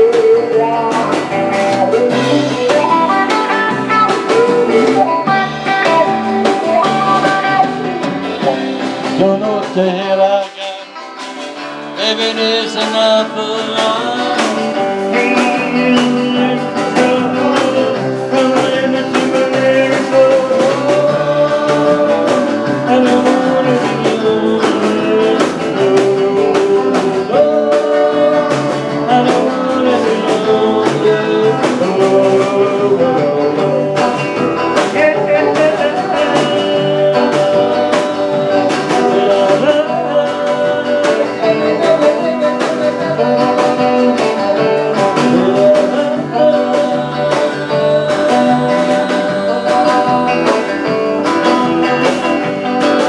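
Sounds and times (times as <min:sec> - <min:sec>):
live country-rock band: 0:00.0 - 0:53.0
man singing: 0:00.0 - 0:53.0.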